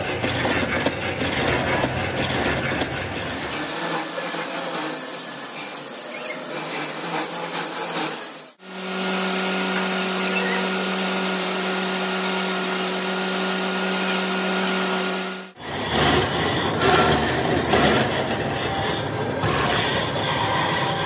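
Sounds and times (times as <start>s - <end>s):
machine shop noise: 0.0s - 21.0s
metalworking machine humming: 0.0s - 21.0s.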